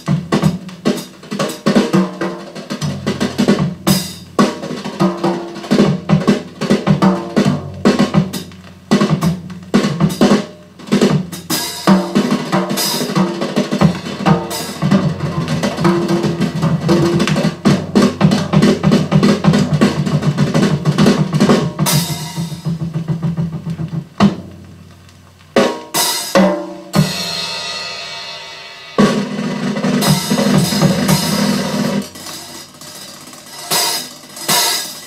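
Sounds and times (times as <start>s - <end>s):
drum kit through loudspeakers: 0.0s - 35.0s.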